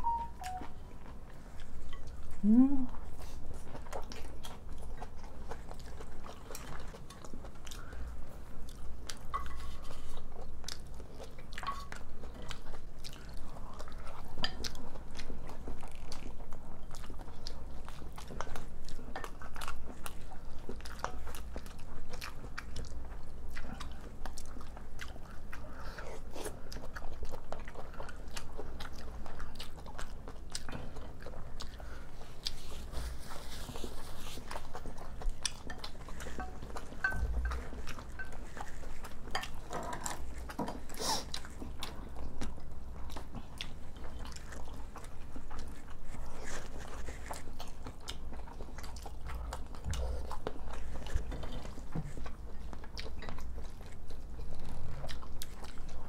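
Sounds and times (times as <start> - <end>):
people chewing food: 0.0 - 56.0.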